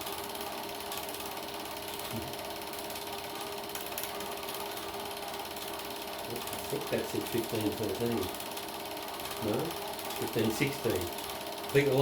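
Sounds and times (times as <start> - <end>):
film projector clattering: 0.0 - 12.0.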